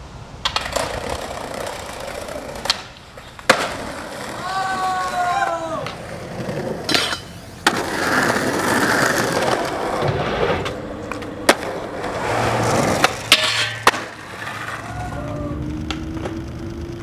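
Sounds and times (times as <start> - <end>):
skateboard wheels rolling on concrete: 0.0 - 17.0
skateboard wooden clacks: 0.4 - 5.0, 5.8 - 17.0.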